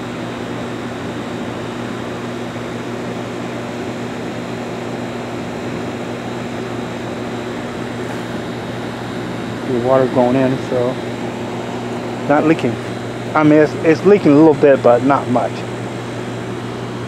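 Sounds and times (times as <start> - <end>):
fan rushing: 0.0 - 17.0
heat pump humming: 0.0 - 17.0.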